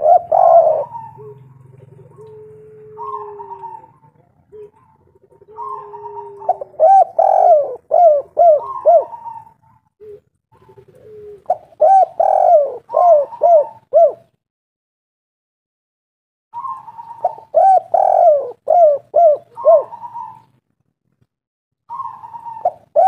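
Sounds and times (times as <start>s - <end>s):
dove cooing: 0.0s - 14.4s, 16.6s - 20.6s, 21.9s - 23.0s.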